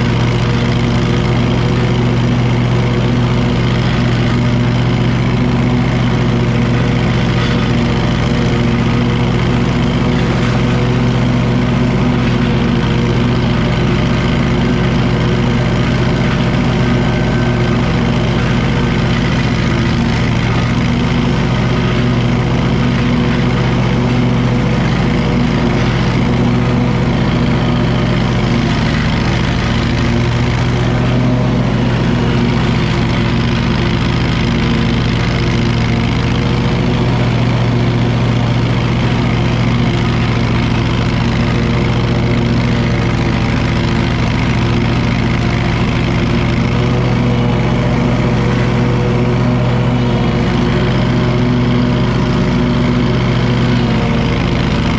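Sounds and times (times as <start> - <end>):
lawn mower engine droning: 0.0 - 54.9.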